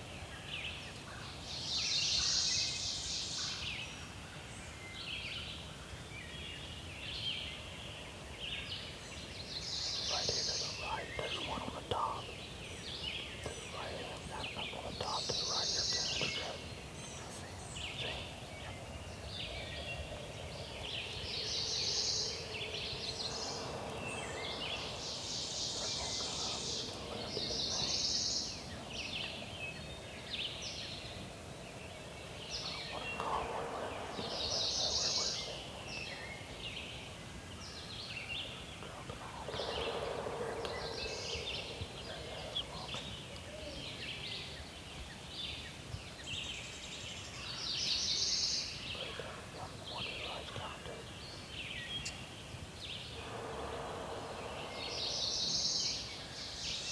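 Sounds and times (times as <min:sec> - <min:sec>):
songbirds trilling: 0:00.0 - 0:56.9.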